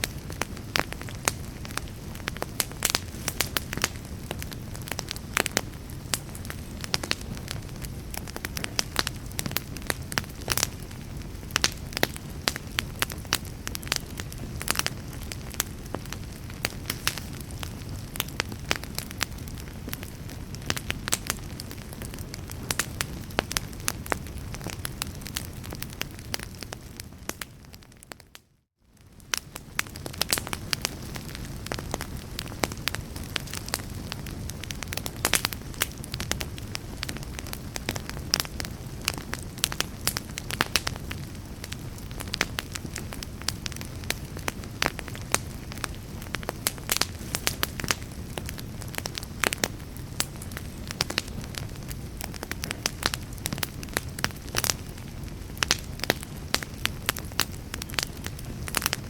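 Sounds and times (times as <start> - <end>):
fire popping and snapping: 0.0 - 59.0
low rumble of flame: 0.0 - 59.0
wood fire crackling: 0.0 - 59.0.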